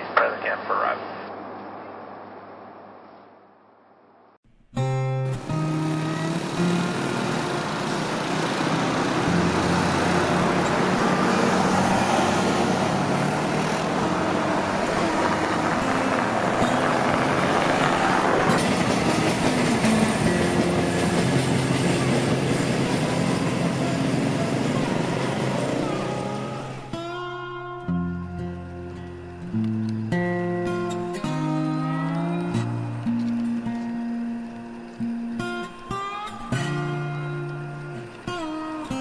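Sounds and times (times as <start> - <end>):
cars and motorcycles driving past: 5.2 - 39.0.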